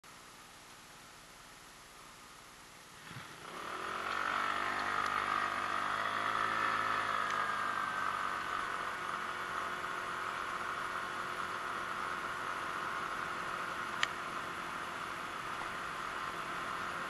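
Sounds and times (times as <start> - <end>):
scooter engine accelerating: 3.1 - 17.0.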